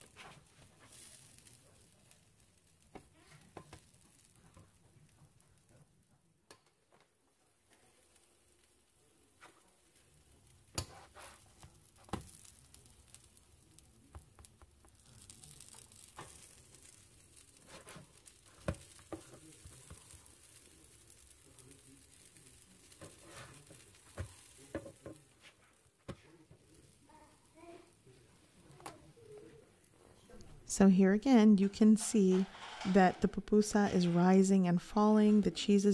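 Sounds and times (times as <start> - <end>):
food sizzling on a griddle: 0.0 - 6.0, 7.4 - 30.6, 31.7 - 34.5.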